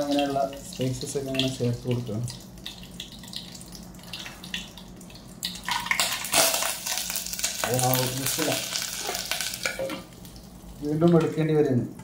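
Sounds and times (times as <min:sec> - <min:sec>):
spices sizzling in butter and oil: 0:00.0 - 0:11.5
faint steady hum: 0:00.0 - 0:12.0.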